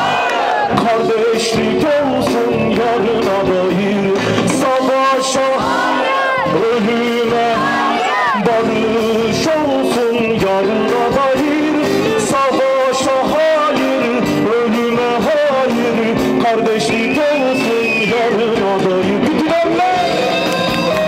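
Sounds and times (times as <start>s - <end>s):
electric guitar: 0.0s - 21.0s
live folk-rock band: 0.0s - 21.0s
man singing into microphone: 0.2s - 21.0s.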